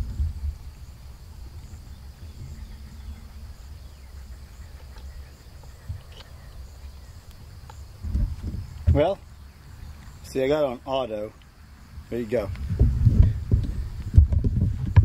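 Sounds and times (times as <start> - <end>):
low rumble: 0.0 - 10.0, 11.9 - 15.0
insects trilling: 0.0 - 14.8
insect chirps: 0.0 - 15.0.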